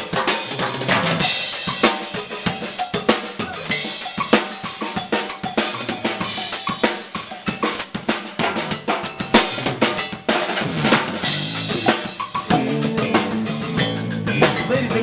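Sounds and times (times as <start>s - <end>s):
drum kit and timbales playing: 0.0s - 15.0s.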